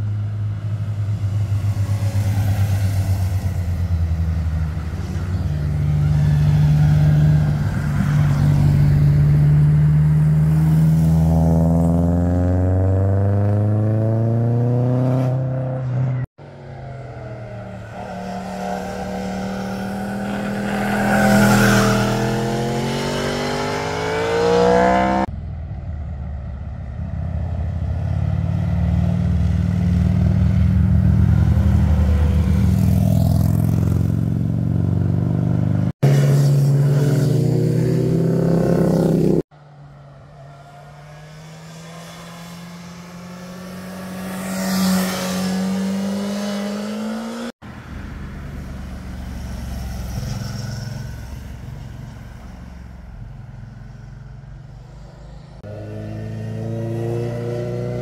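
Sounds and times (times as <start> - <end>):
motorcycles passing by: 0.0 - 25.3, 26.8 - 58.0.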